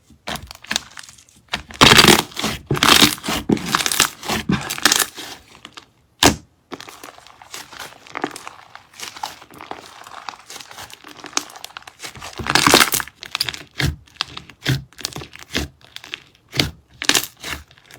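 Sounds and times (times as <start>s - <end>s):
slime crackling and popping: 0.3s - 17.9s.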